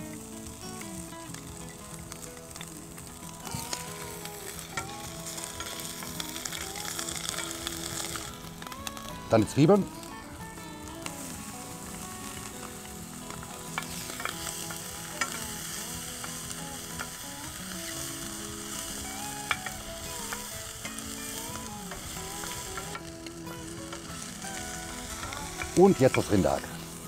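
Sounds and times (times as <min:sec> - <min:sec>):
onions and bacon sizzling in a pan: 0:00.0 - 0:27.0.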